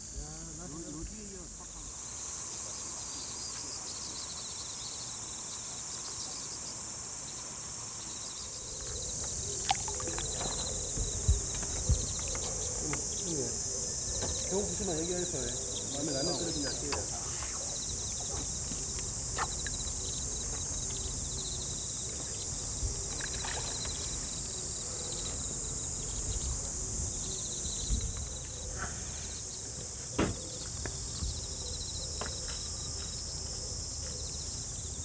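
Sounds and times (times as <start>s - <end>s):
high-pitched insect chorus: 0.0s - 35.0s
insect pulsing trill: 0.0s - 35.0s.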